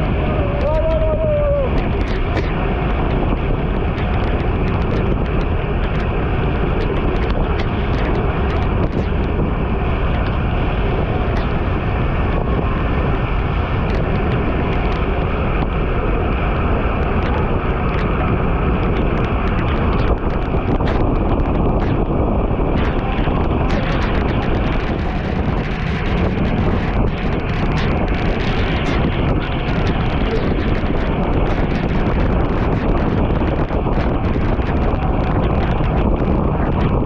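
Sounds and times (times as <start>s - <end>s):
wind roaring on microphone: 0.0s - 37.0s.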